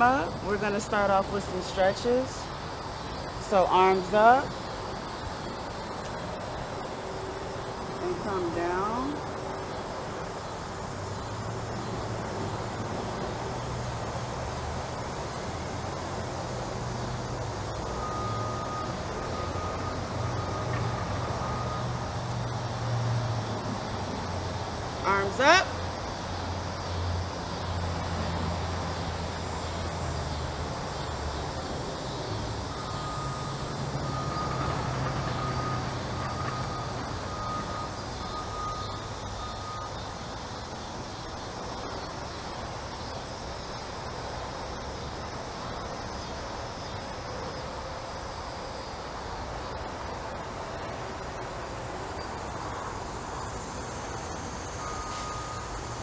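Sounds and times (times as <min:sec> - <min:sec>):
low rumble of distant vehicle: 0:00.0 - 0:56.0.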